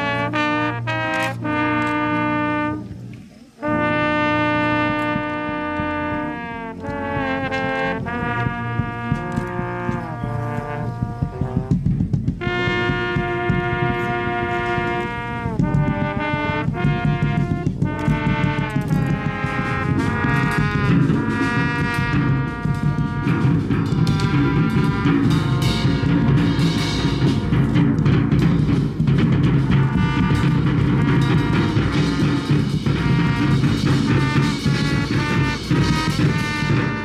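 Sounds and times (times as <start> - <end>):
brass chords: 0.0 - 37.0
drum hits: 3.6 - 37.0.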